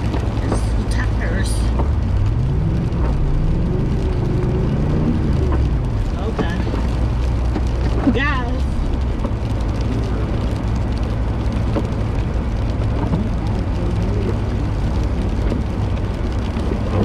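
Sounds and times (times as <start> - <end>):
car engine and tires rumbling: 0.0 - 17.0.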